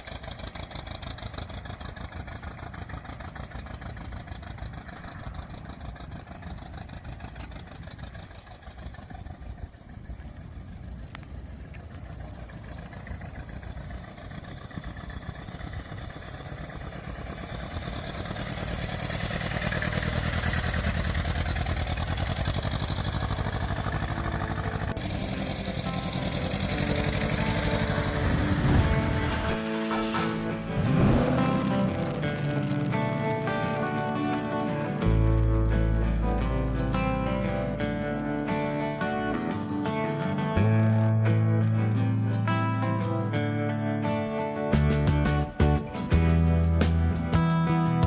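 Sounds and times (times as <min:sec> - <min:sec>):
truck engine running: 0:00.0 - 0:42.8, 0:44.7 - 0:48.0.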